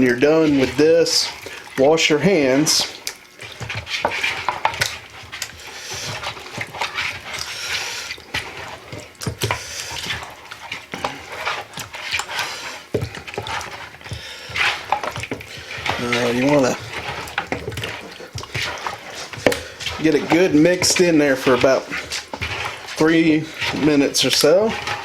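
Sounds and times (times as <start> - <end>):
hands squishing raw meat: 0.0 - 25.0
wet squelches and clicks: 2.9 - 25.0.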